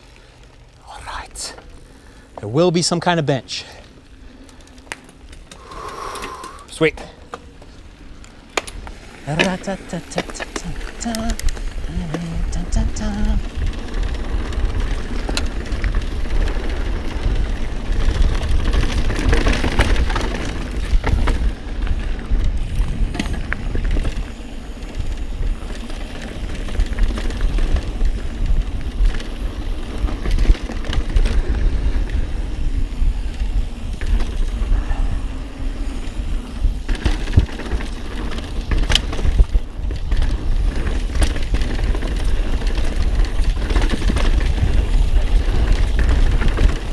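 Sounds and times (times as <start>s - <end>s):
bike tyre and rattle noise: 0.0s - 46.9s
wind rumble on microphone: 8.8s - 46.9s.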